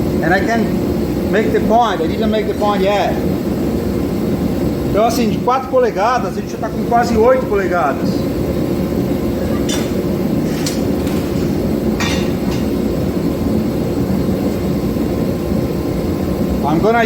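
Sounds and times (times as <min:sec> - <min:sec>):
forge roaring: 0:00.0 - 0:17.0.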